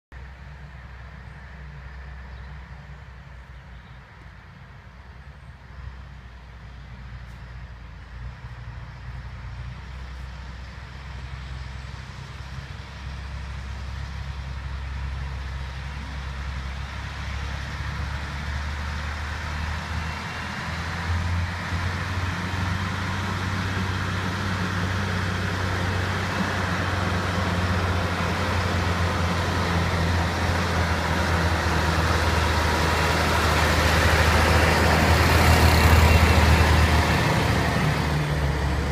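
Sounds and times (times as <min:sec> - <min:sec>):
lorry engine running: 0:00.2 - 0:38.9.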